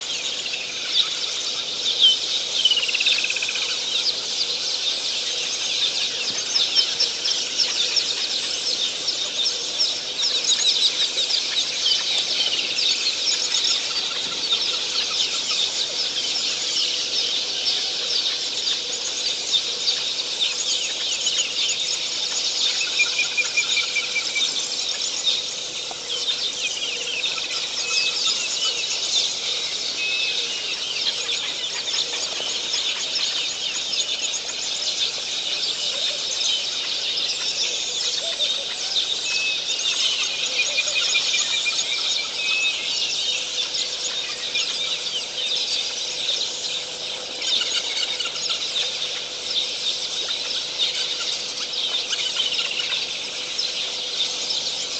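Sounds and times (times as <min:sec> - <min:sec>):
bird trill: 0:00.0 - 0:54.9
birds chattering: 0:00.0 - 0:54.9.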